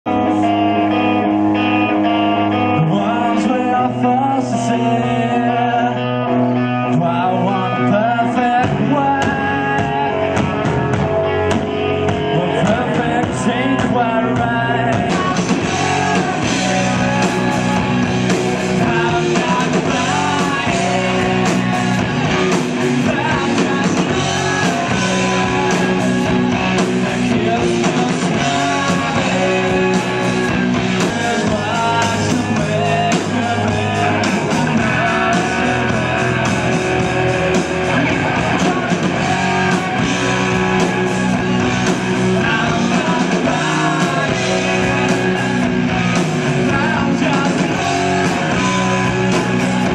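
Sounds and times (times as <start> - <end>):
live rock band playing: 0.0 - 49.9
man singing lead vocal: 2.4 - 49.9.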